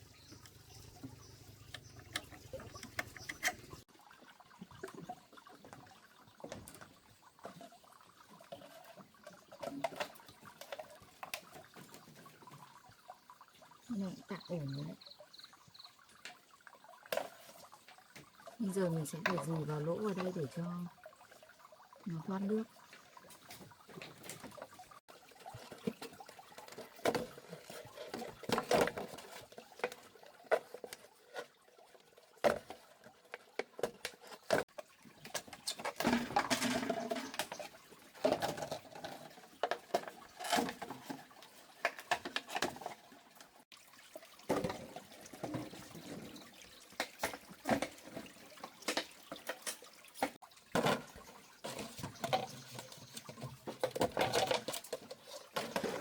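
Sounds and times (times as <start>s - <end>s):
water: 0.0s - 56.0s.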